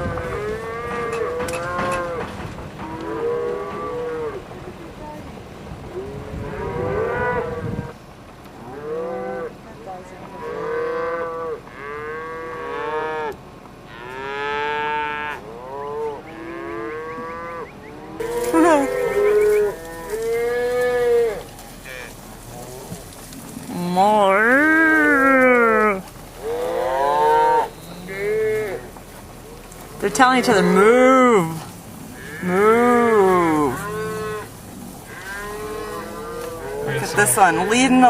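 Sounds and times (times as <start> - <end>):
cattle mooing: 0.0 - 4.4, 5.9 - 8.0, 8.6 - 9.6, 10.3 - 38.0.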